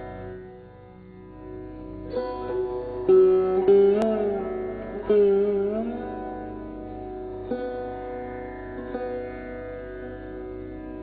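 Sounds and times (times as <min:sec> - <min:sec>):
sarod playing slow passage: 0:00.0 - 0:11.0.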